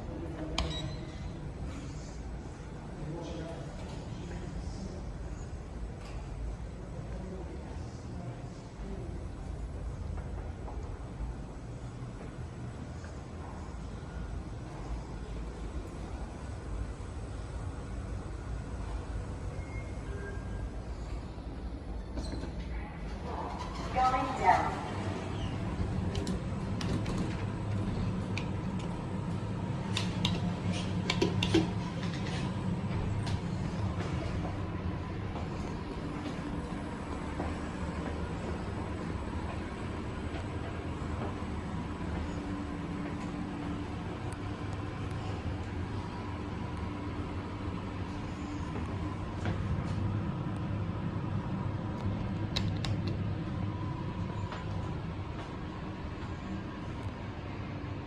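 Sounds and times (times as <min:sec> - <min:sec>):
lift car rumbling and humming: 0:00.0 - 0:58.0.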